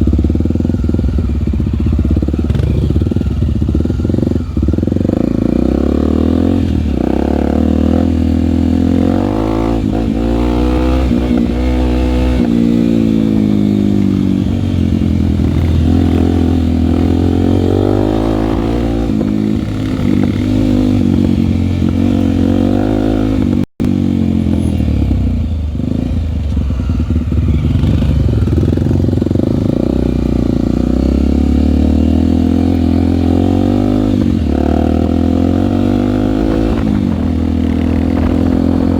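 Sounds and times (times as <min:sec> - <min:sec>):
trail bike engine revving: 0:00.0 - 0:38.9.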